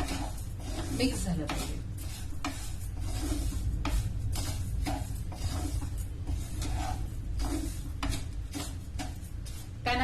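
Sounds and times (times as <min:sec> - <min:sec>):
spoon stirring and scraping pan: 0:00.0 - 0:10.0.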